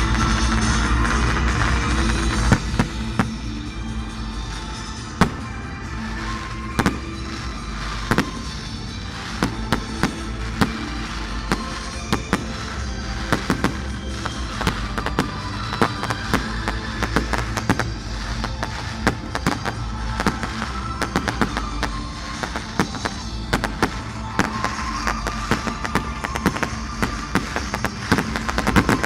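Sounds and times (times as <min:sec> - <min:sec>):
fireworks bangs: 0:00.0 - 0:03.8, 0:04.5 - 0:29.0
music playing: 0:00.0 - 0:29.0.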